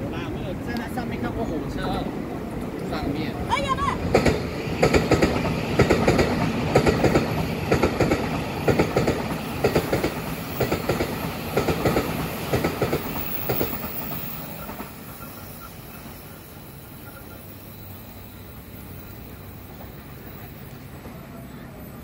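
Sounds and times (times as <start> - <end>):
train rumble: 0.0 - 22.0
train wheels clickety-clack: 0.7 - 22.0.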